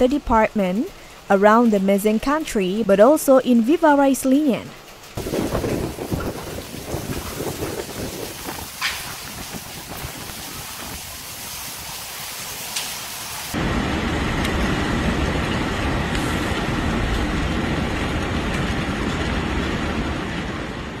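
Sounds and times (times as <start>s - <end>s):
low rumble of downpour: 0.0s - 21.0s
heavy rain hissing: 3.8s - 21.0s.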